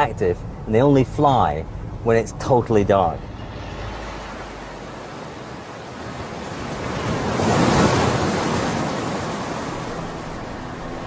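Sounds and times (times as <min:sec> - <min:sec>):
sea waves washing: 0:00.0 - 0:11.0.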